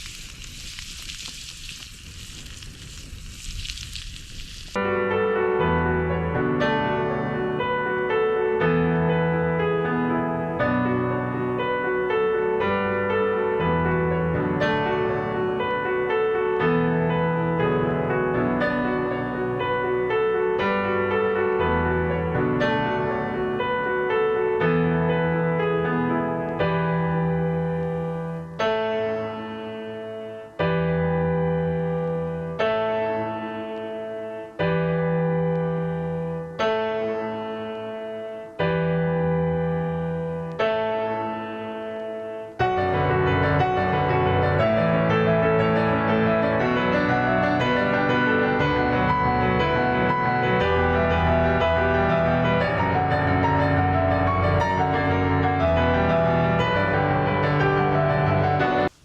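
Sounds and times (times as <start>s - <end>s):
slow piano chords: 4.8s - 59.0s.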